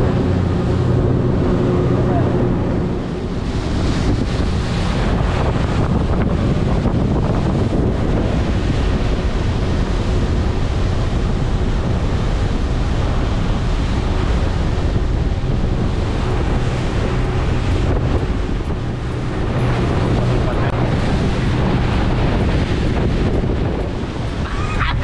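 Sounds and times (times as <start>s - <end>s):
boat engine hum: 0.0s - 25.0s
water rushing along boat hull: 0.0s - 25.0s
wind buffeting microphone: 0.0s - 25.0s.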